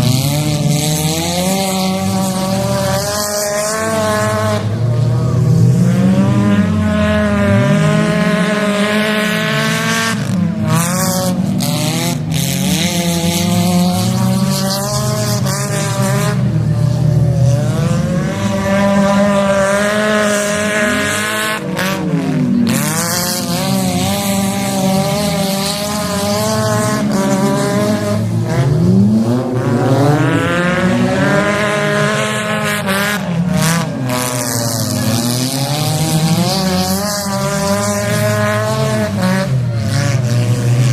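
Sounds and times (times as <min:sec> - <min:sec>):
car engines revving hard: 0:00.0 - 0:40.9.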